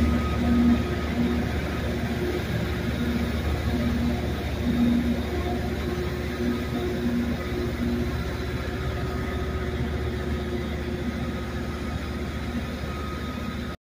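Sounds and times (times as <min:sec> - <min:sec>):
faint hum: 0:00.0 - 0:13.8
train diesel engine rumble: 0:00.0 - 0:13.8.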